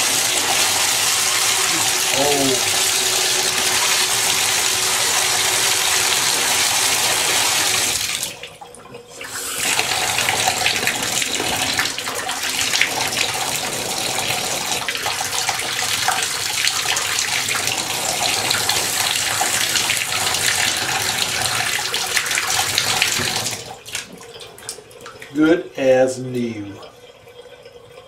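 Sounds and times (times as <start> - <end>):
water running from bathtub faucet: 0.0 - 28.0.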